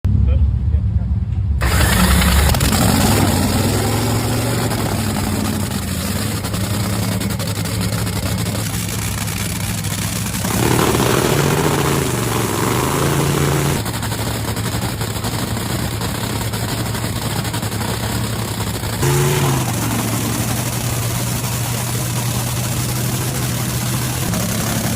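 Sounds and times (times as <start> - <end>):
dragster engine popping at idle: 1.6 - 24.9.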